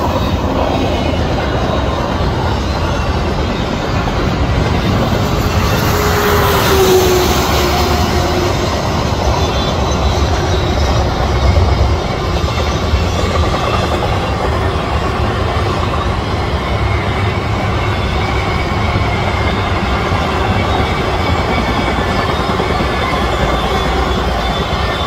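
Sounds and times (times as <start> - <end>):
freight train rumbling on rails: 0.0 - 25.0
wheels clickety-clack: 0.0 - 25.0.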